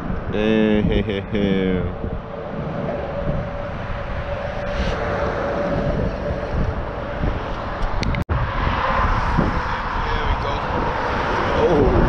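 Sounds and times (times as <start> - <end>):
distant engine drone: 0.0 - 12.0
wind rumbling on microphone: 0.0 - 12.0.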